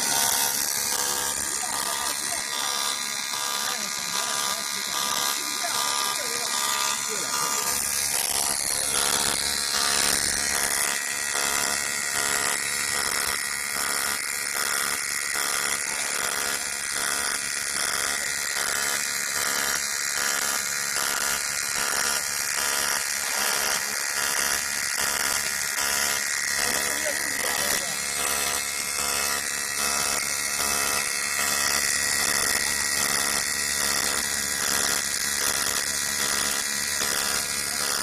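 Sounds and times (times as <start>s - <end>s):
welding arc buzzing: 0.0s - 38.0s.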